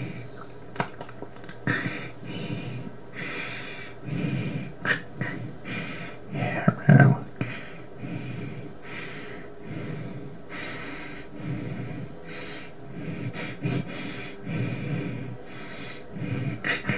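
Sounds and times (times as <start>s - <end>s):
heavy breathing: 0.0s - 0.6s, 1.4s - 16.9s.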